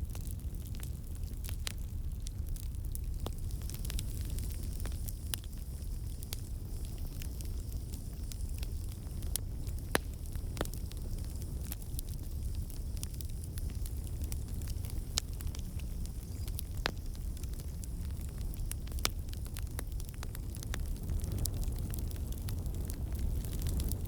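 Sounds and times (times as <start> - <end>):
burning wood crackling and popping: 0.0 - 24.0
campfire flames rumbling: 0.0 - 24.0.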